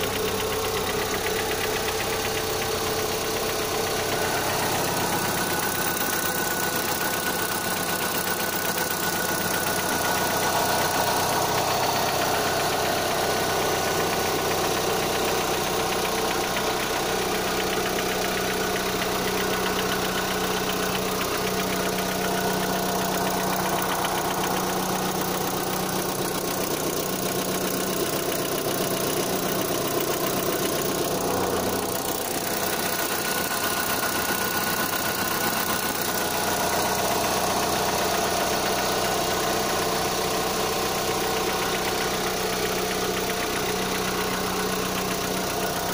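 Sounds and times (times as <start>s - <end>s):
car engine idling with knock: 0.0s - 45.9s.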